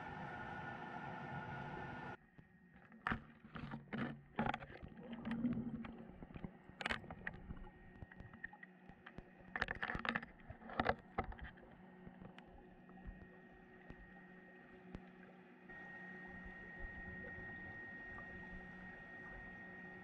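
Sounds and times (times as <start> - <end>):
steady underwater hum: 0.0 - 20.0.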